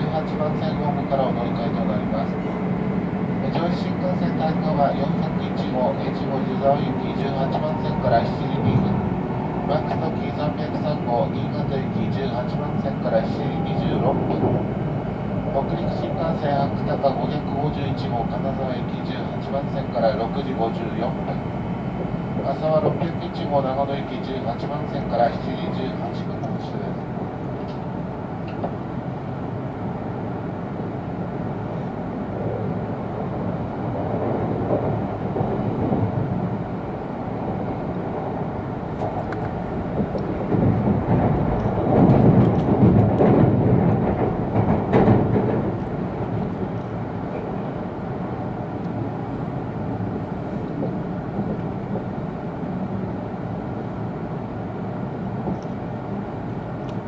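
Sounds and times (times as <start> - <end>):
rumble of train wheels and track: 0.0 - 57.0.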